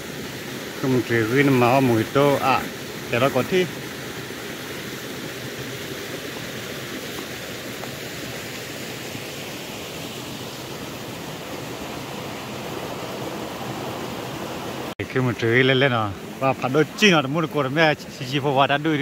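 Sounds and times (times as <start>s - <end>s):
swollen stream rushing: 0.0s - 19.0s.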